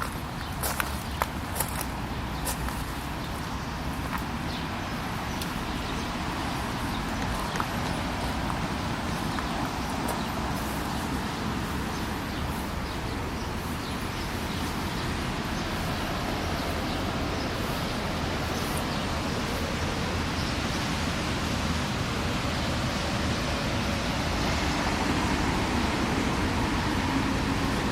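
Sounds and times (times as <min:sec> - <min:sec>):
distant city traffic rumble: 0:00.0 - 0:27.9.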